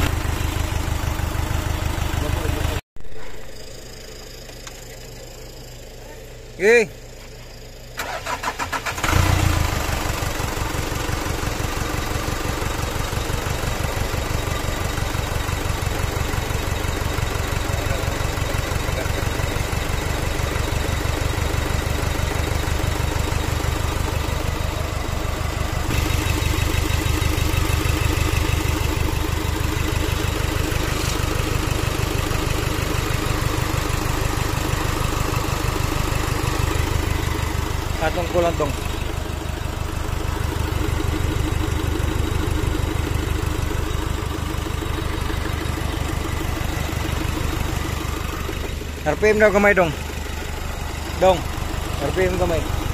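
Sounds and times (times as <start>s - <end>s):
diesel engine idling: 0.0s - 52.9s
diesel engine starter cranking: 6.6s - 52.9s.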